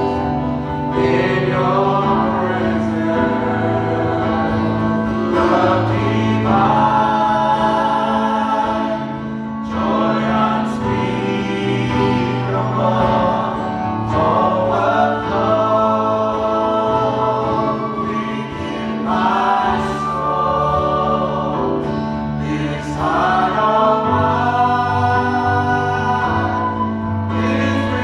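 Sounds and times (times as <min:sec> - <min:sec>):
choir singing: 0:00.0 - 0:28.0
sustained chord accompaniment: 0:00.0 - 0:28.0.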